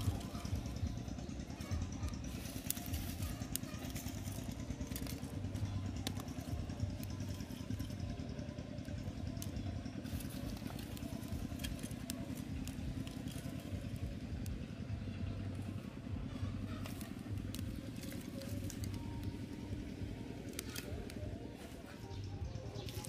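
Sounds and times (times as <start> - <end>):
charcoal lumps clicking: 0.0 - 23.0
steady low rumble: 0.0 - 23.0
twig fire crackling: 0.0 - 23.0.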